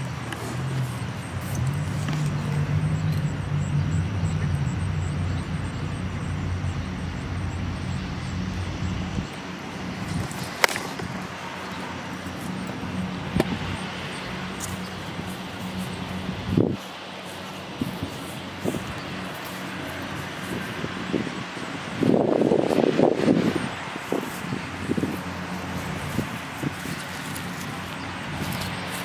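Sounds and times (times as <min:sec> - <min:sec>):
low engine-like hum: 0:00.0 - 0:29.0
outdoor noise: 0:00.0 - 0:29.0.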